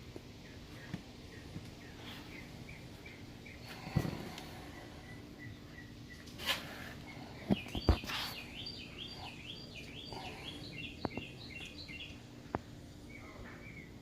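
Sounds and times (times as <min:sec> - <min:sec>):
bird chirping: 0:00.3 - 0:14.0.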